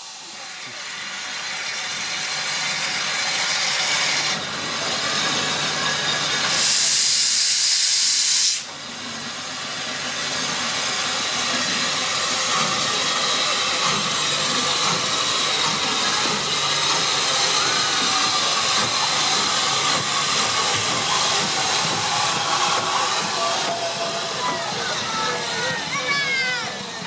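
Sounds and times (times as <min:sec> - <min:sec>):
loud sharp steam blowing: 0:00.0 - 0:27.0
steam engine hissing: 0:00.0 - 0:27.0.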